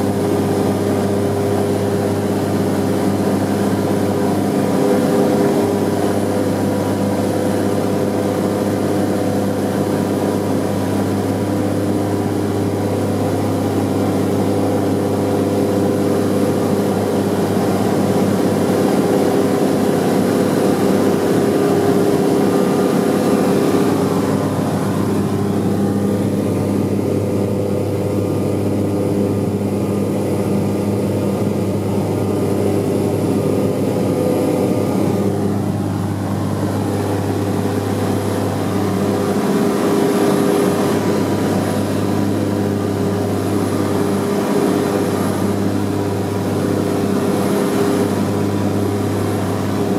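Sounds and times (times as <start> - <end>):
radial engines and propellers: 0.0 - 49.9.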